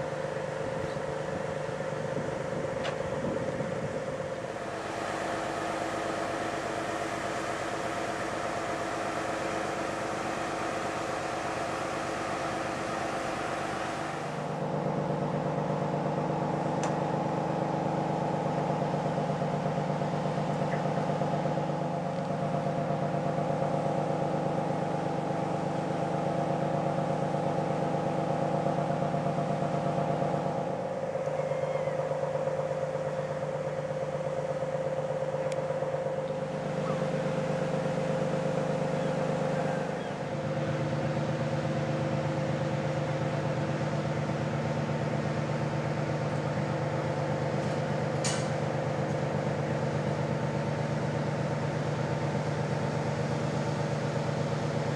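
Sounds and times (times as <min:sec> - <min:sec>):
ship machinery droning: 0:00.0 - 0:54.9.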